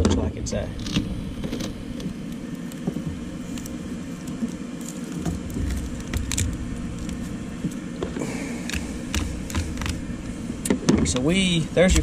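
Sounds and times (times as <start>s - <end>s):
foam crackling and tearing: 0.8s - 12.0s.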